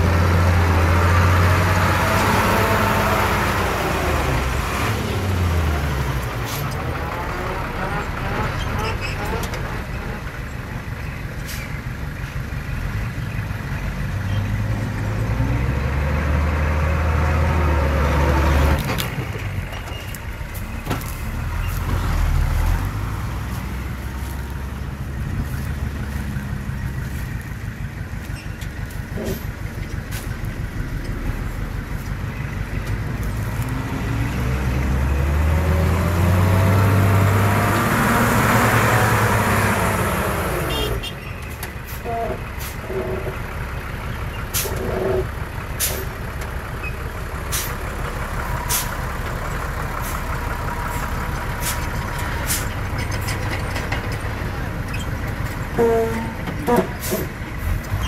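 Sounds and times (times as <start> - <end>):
heavy diesel engine revving: 0.0 - 10.9, 12.5 - 58.0.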